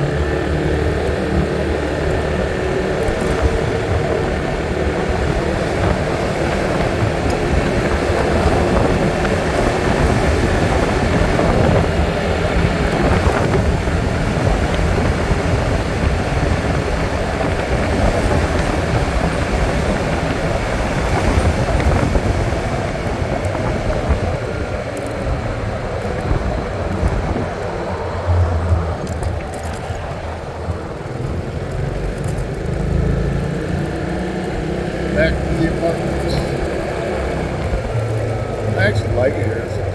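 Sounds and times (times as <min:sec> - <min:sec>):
road noise: 0:00.0 - 0:39.9
vehicle engine: 0:00.0 - 0:39.9.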